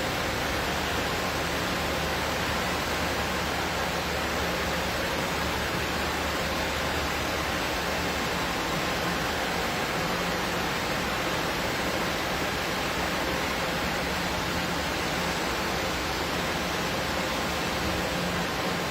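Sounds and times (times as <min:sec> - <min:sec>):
car wash water spray rushing: 0:00.0 - 0:18.9.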